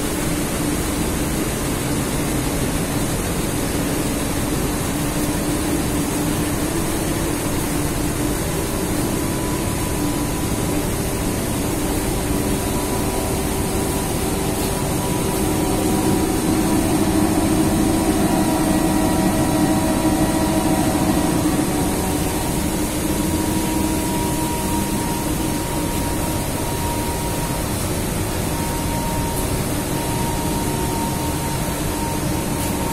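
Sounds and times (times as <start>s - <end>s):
mill machinery drone: 0.0s - 32.9s
machine whining tones: 4.1s - 32.9s.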